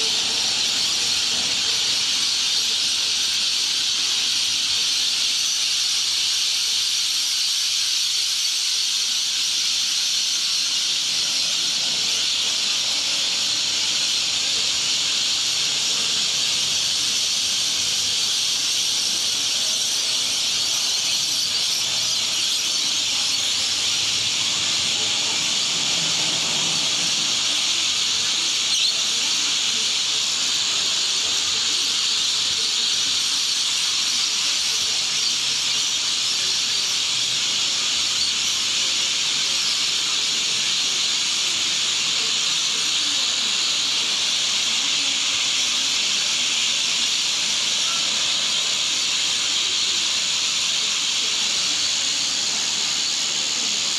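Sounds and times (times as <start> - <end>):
flock of parrots screeching: 0.0 - 53.9.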